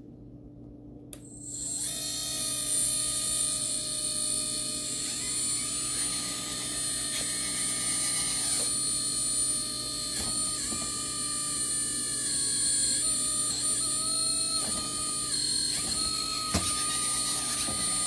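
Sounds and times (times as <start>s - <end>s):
hydraulic pump whining: 1.3s - 18.0s.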